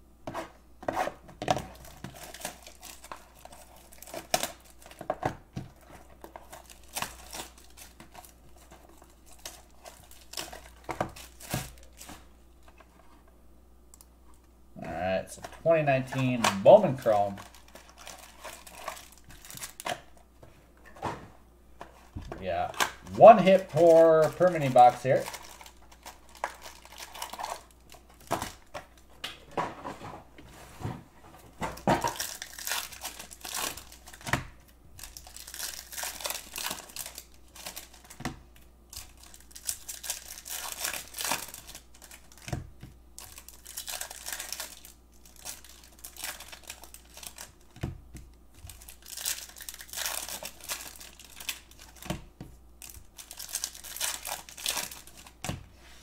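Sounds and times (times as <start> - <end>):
foil wrappers tearing and crinkling: 0.9 - 12.8, 14.9 - 20.2, 22.4 - 29.1, 31.8 - 38.3, 38.9 - 42.6, 43.2 - 47.8, 48.6 - 52.2, 52.8 - 55.6.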